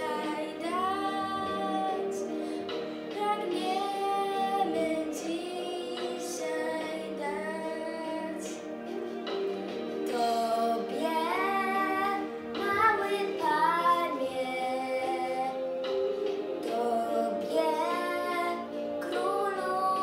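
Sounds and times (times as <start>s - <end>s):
girl singing: 0.0s - 8.6s, 10.0s - 15.7s, 16.6s - 20.0s
instrumental accompaniment: 0.0s - 20.0s.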